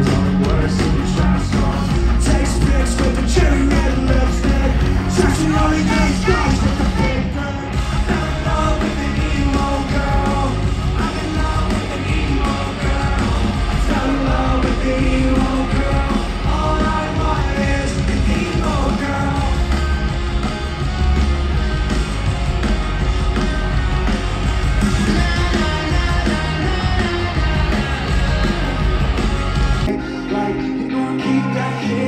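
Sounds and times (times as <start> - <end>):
live rock band: 0.0 - 32.0
voices singing and yelling: 0.0 - 32.0.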